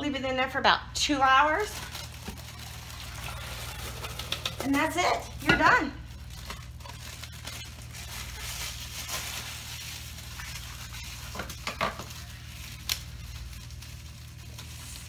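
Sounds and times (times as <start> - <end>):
low steady hum: 0.0 - 15.0
plastic bag rustling and crinkling: 1.2 - 15.0.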